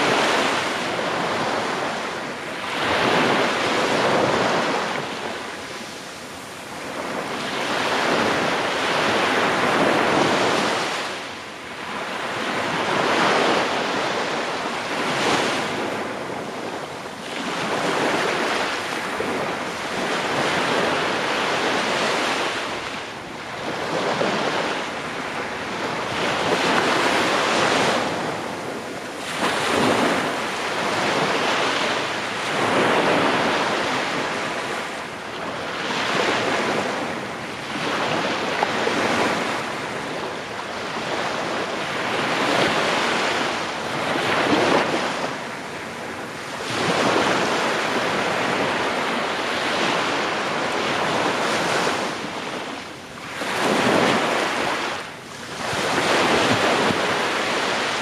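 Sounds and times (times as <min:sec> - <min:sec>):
small waves breaking on sand: 0:00.0 - 0:58.0.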